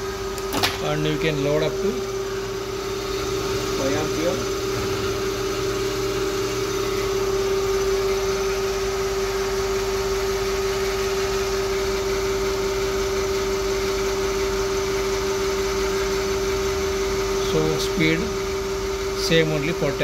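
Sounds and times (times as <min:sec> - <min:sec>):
electric motor humming: 0:00.0 - 0:20.0.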